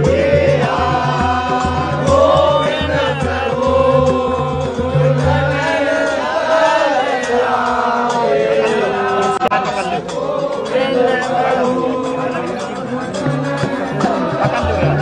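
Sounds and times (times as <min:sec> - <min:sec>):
drum beating: 0:00.0 - 0:15.0
group of voices singing: 0:00.0 - 0:15.0.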